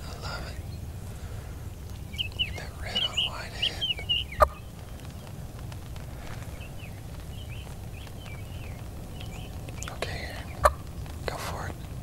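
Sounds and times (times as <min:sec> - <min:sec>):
faint bird chirps: 0:00.0 - 0:05.4, 0:06.2 - 0:12.0
wind rumble: 0:00.0 - 0:12.0.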